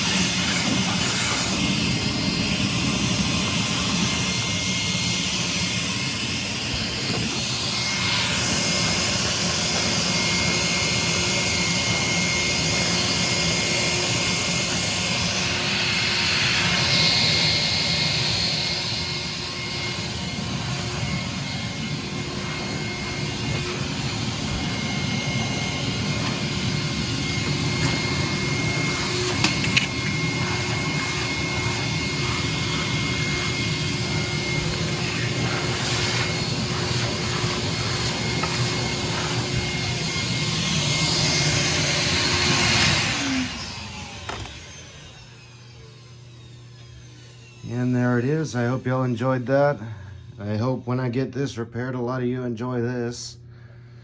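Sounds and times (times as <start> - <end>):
vacuum cleaner running: 0.0 - 51.4.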